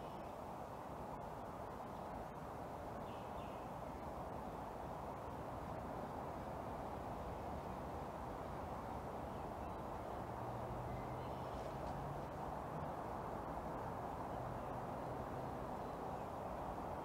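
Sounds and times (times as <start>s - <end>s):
dull outdoor hiss: 0.0s - 17.0s.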